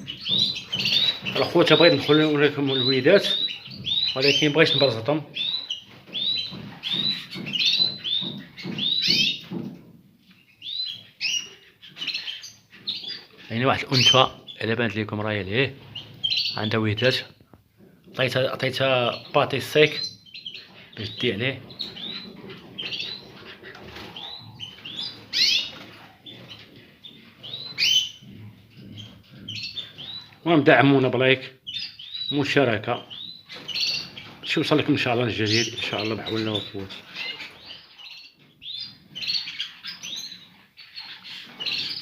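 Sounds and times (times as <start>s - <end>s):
finches chirping: 0.0s - 9.6s, 10.3s - 17.4s, 18.1s - 42.0s.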